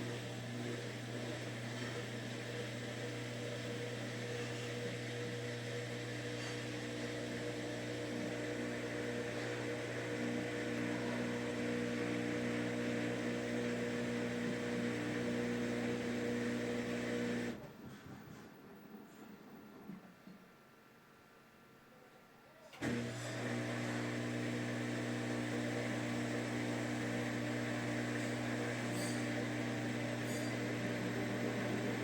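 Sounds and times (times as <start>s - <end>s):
washing machine spinning: 0.0s - 17.6s, 22.8s - 32.0s.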